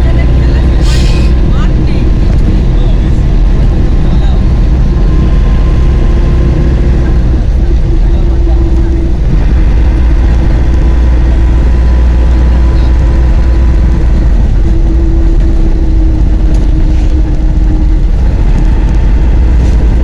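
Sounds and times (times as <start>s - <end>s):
road vehicle rumble: 0.0s - 20.0s.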